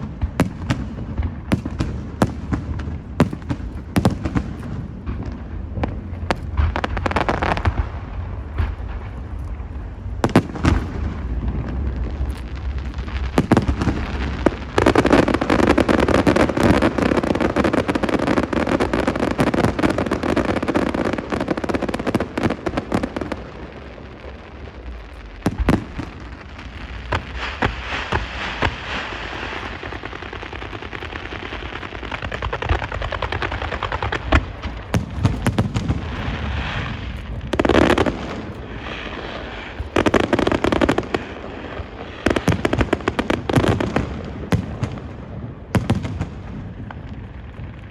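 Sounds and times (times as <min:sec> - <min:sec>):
firework bangs: 0:00.0 - 0:47.9
firework crackling: 0:00.0 - 0:47.9
rapid firework popping: 0:00.0 - 0:47.9.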